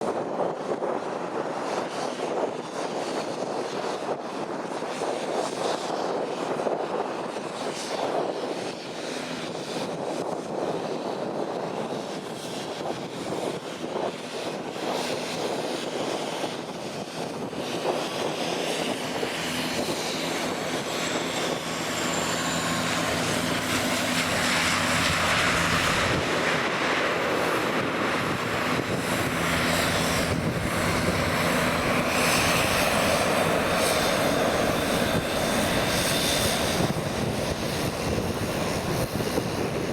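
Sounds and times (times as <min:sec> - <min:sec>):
turboprop engine drone and whine: 0:00.0 - 0:39.9
wind buffeting microphone: 0:00.0 - 0:39.9.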